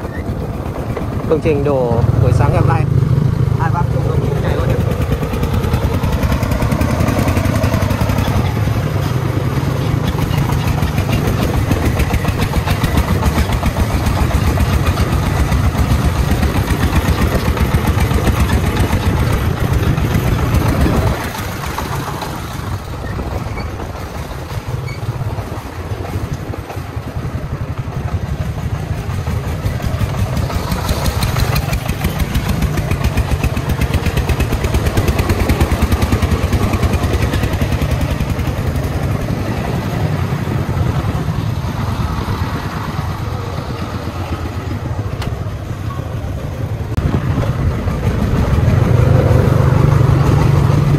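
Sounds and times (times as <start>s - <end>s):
diesel engine chugging: 0.0s - 50.9s.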